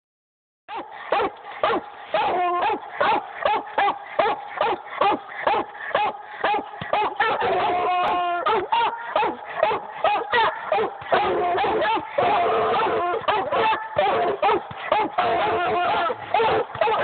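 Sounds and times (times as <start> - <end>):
dog yelping cry: 0.7 - 17.0
hound barking: 0.7 - 17.0.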